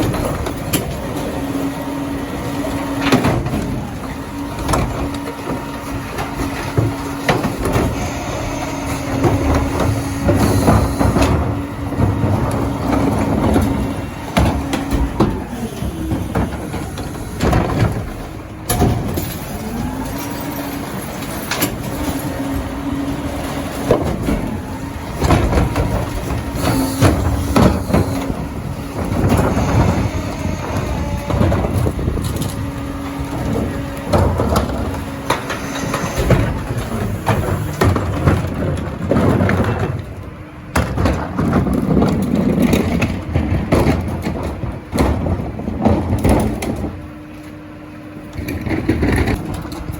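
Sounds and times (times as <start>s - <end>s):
hydraulic packer whining: 0.0s - 49.9s
recyclables clanking into hopper: 0.0s - 49.9s
truck engine running: 0.0s - 49.9s.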